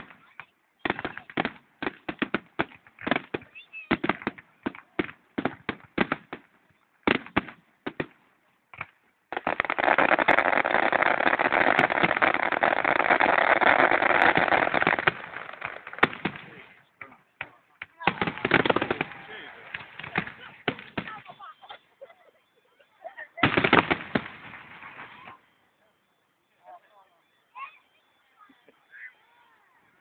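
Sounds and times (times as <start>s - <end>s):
fireworks banging and crackling: 0.0s - 21.9s, 22.7s - 25.4s.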